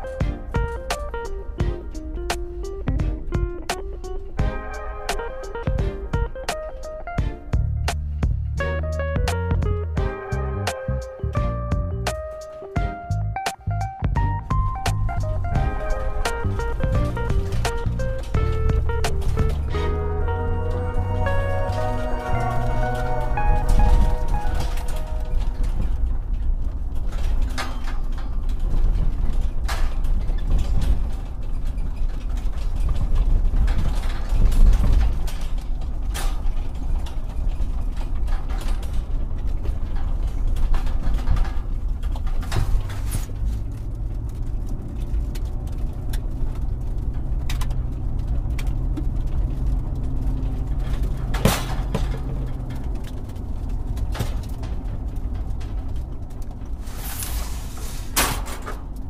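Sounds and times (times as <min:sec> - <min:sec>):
diesel engine rumbling: 0:00.0 - 0:59.0
metallic clanks and creaks: 0:00.0 - 0:59.0.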